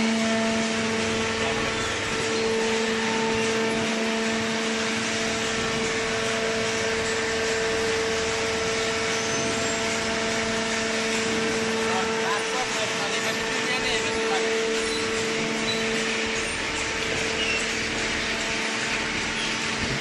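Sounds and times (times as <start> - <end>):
hydraulic baler humming and whining: 0.0 - 20.0.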